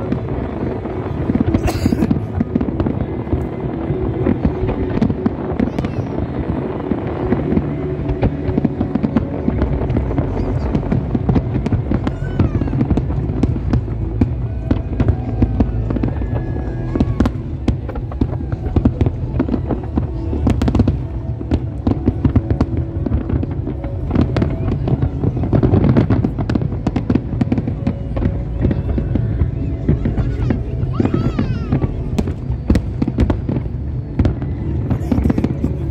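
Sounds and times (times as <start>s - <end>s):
low rumble: 0.0s - 35.9s.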